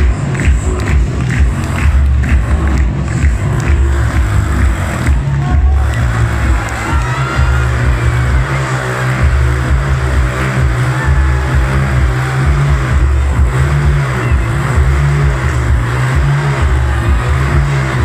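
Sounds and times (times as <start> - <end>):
loud music with heavy bass beat: 0.0 - 18.0
motorcycle engines revving: 0.0 - 18.0.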